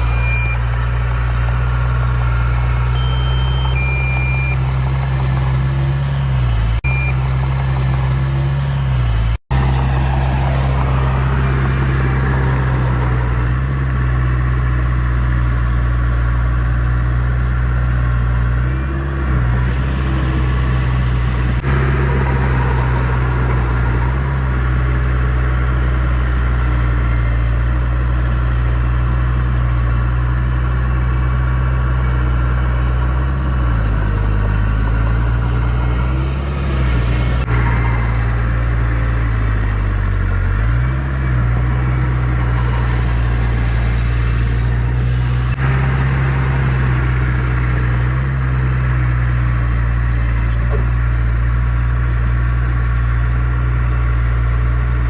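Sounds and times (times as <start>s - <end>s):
diesel engine running at low revs: 0.0s - 55.0s.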